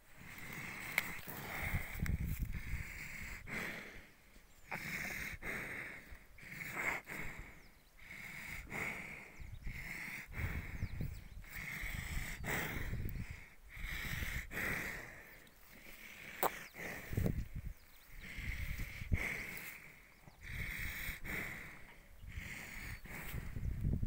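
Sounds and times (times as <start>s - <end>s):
water buffalo breathing and snorting: 0.1s - 24.0s.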